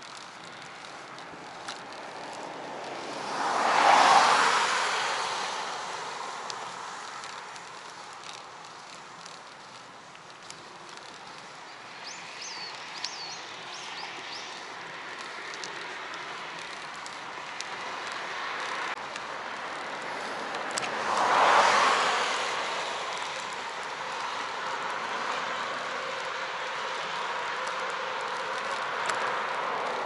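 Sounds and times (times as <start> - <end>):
rushing road and wind noise: 0.0 - 30.0
vehicle passing: 0.0 - 30.0.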